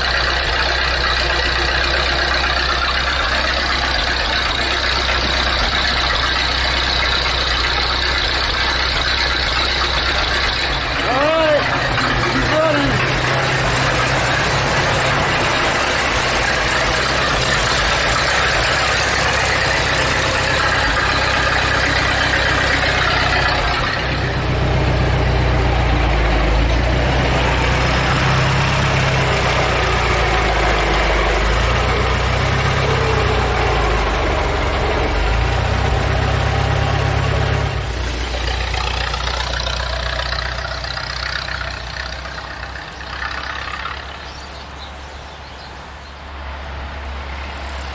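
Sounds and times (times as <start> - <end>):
car engine exhaust note: 0.0 - 45.6.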